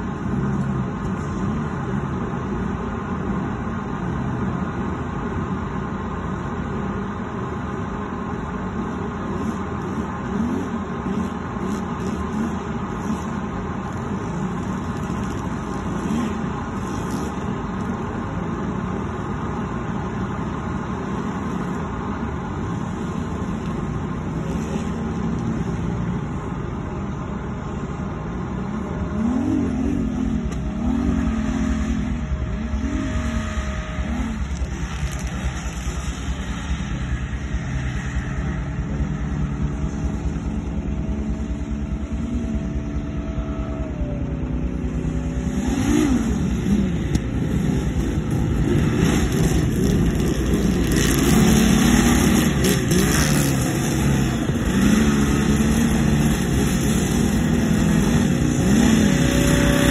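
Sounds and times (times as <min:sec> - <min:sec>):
hovercraft engine and propeller: 0:00.0 - 0:59.9.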